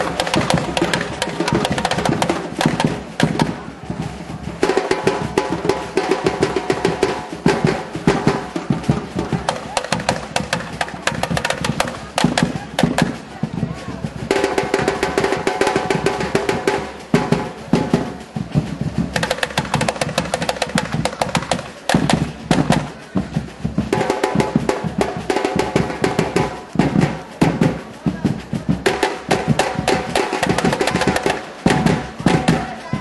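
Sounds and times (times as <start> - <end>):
samba drum section: 0.0 - 33.0
surdo bass drums: 0.0 - 33.0.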